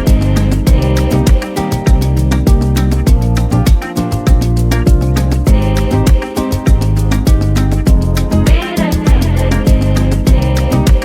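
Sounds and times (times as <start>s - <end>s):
fast bright hi-hat: 0.0s - 11.0s
latin dance music: 0.0s - 11.0s
thumping kick drum: 0.0s - 11.0s.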